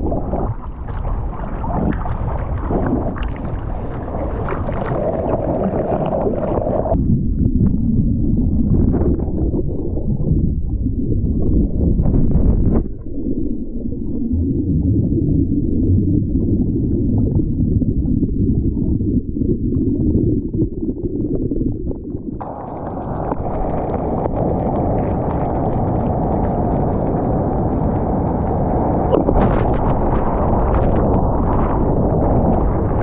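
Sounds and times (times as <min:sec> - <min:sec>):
underwater churning water rumble: 0:00.0 - 0:33.0.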